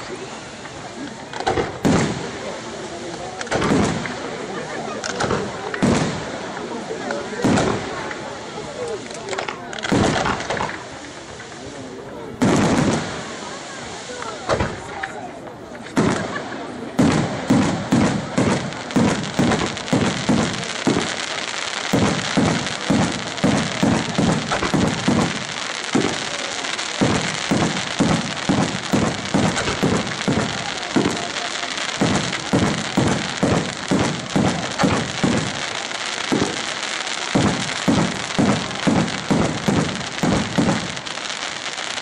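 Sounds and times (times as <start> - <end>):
firework crackle and hiss: 0.0 - 42.0
firework shells booming: 1.3 - 11.6, 12.2 - 42.0.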